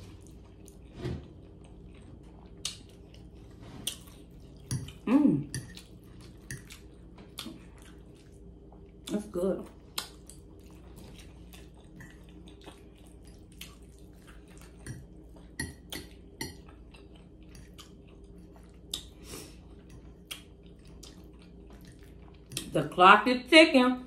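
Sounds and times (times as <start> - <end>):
person chewing close up: 0.0 - 22.8.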